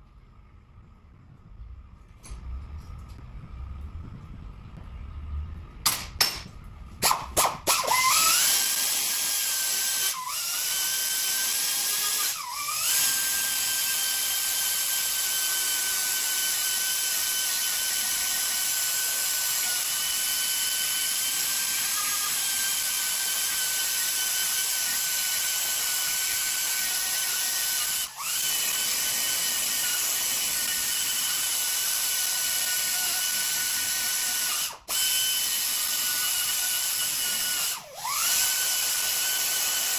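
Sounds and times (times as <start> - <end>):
die grinder whining: 7.0 - 39.9.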